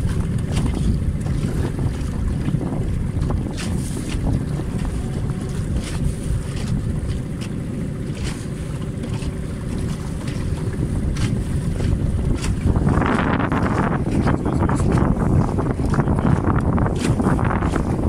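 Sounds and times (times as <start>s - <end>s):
short water splashes: 0.0s - 18.0s
water rushing along boat hull: 0.0s - 18.0s
wind buffeting microphone: 0.0s - 18.0s.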